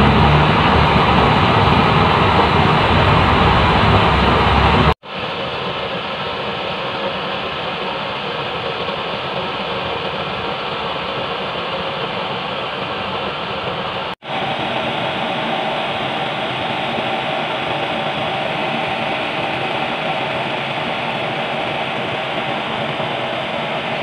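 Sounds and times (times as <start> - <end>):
stove flame rushing: 0.0 - 24.0.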